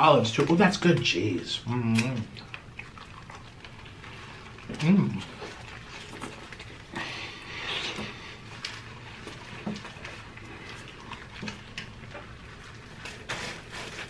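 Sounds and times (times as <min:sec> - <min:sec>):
chewing and mouth smacks: 0:01.8 - 0:14.0.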